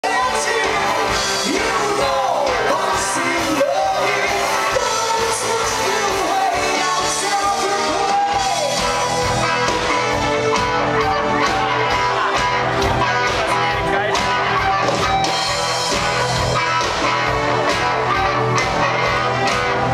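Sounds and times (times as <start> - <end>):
drums: 0.0 - 19.9
live rock band playing: 0.0 - 19.9
singer belting and yelling: 0.0 - 19.9.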